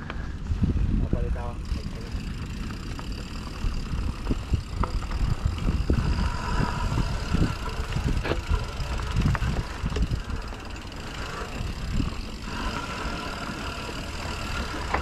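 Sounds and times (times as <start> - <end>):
bike rolling on dirt trail: 0.0 - 15.0
bike knocks and rattles: 1.6 - 15.0.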